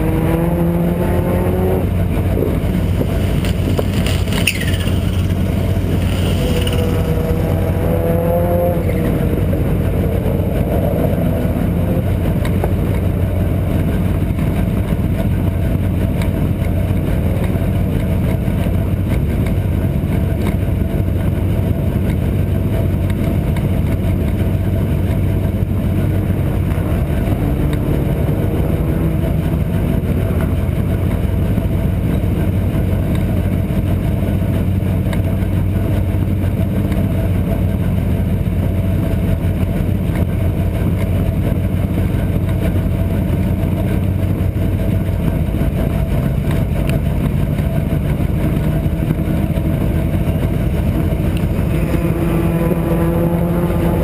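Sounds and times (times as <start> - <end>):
engines revving: 0.0 - 54.0
race car engines idling: 0.0 - 54.0.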